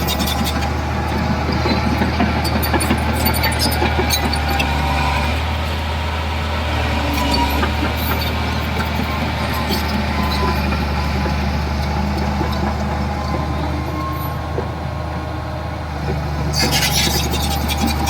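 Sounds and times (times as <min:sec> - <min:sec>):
diesel machinery engine drone: 0:00.0 - 0:18.0.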